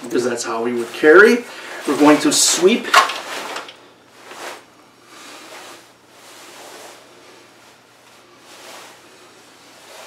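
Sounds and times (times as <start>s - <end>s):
jacket fabric rustling: 0.0s - 10.0s.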